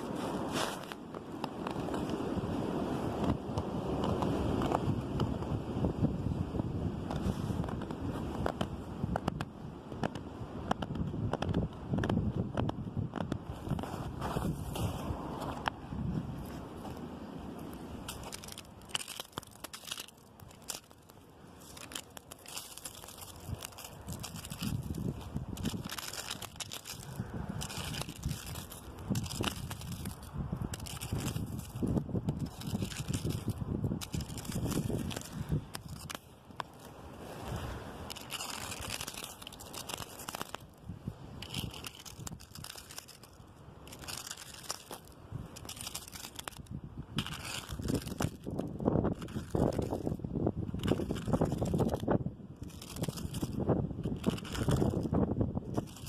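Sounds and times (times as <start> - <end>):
rustling twigs and leaves: 0.0 - 56.0
wind in tree branches: 0.0 - 56.0
wind buffeting microphone: 1.6 - 19.2, 22.4 - 56.0.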